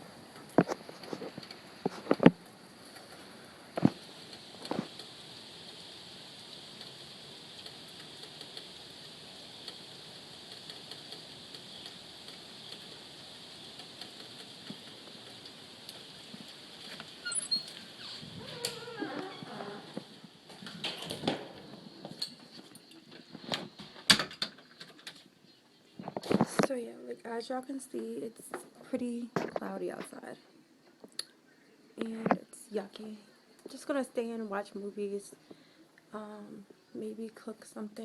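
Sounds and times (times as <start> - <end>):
rain pattering: 0.0 - 38.0.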